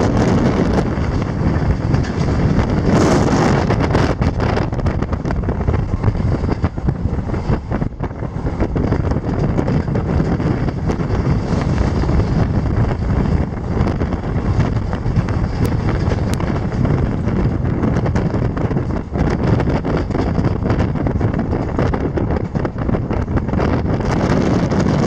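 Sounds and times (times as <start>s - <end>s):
train wheels rumbling on rails: 0.0s - 25.0s
wind buffeting microphone: 0.0s - 25.0s.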